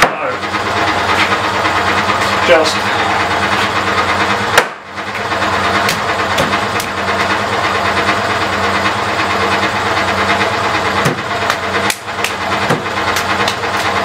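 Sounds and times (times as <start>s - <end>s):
pug mill motor hum: 0.0s - 14.0s.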